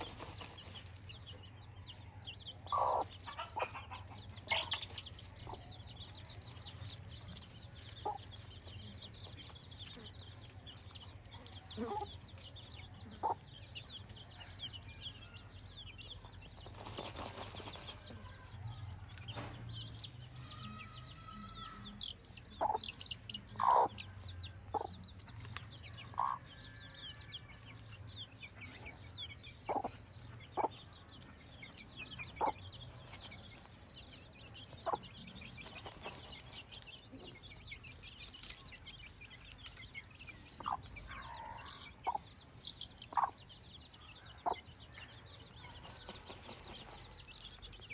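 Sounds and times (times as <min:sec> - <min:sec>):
chickens clucking: 0:00.0 - 0:15.1, 0:15.8 - 0:21.2, 0:21.8 - 0:47.9.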